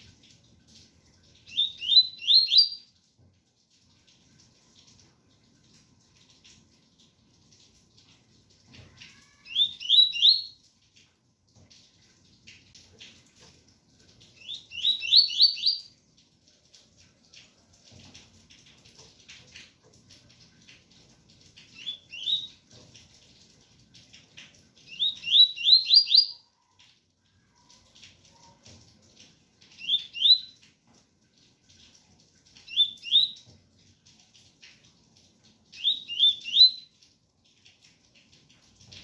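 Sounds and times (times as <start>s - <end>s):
rain patter: 0.0s - 39.0s.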